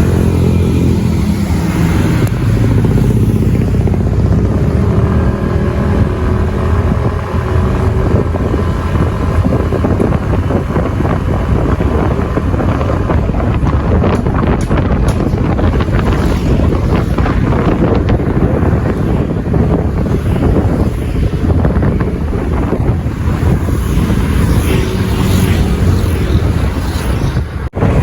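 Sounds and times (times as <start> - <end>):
motorcycle engine running: 0.0 - 27.2
wind rushing over microphone: 0.0 - 28.0.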